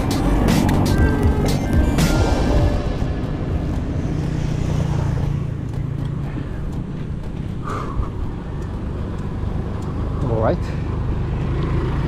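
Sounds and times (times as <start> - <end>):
vehicle engine passing by: 0.0 - 12.0
wind and road noise rumble: 0.0 - 12.0.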